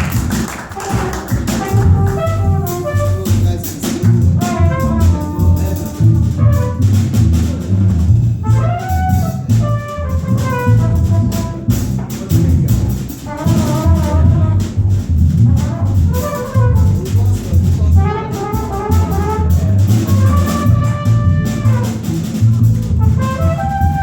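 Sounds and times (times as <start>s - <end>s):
bass notes: 0.0s - 24.0s
jazz lead melody: 0.0s - 24.0s
drums with cymbal strokes: 1.2s - 24.0s.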